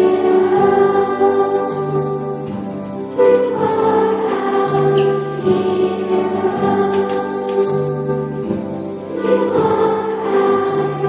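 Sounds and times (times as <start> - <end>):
children's choir singing: 0.0 - 11.0.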